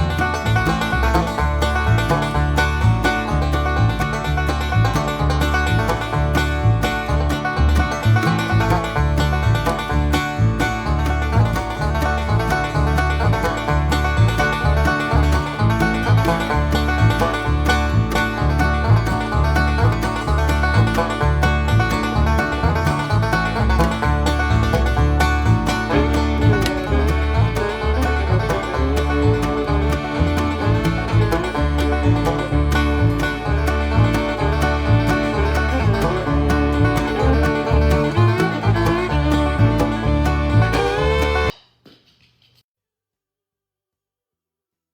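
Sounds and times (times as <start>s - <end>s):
banjo-led bluegrass music: 0.0s - 41.5s
bouncing bass: 0.0s - 41.5s.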